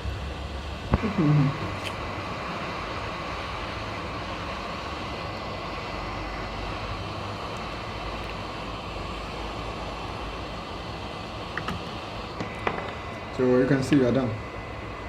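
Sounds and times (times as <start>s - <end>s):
hot air gun blowing: 0.8s - 13.4s.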